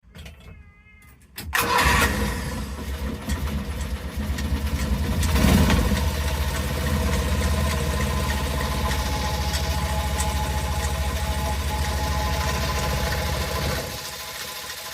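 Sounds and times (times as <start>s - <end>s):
truck engine idling: 2.6s - 14.9s.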